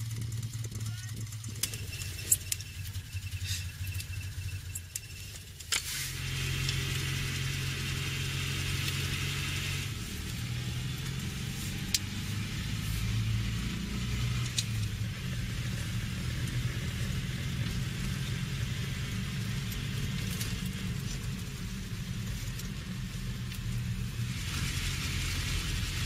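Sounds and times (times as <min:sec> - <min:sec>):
car engine driving: 0:00.0 - 0:26.0
road and wind noise: 0:00.0 - 0:26.0.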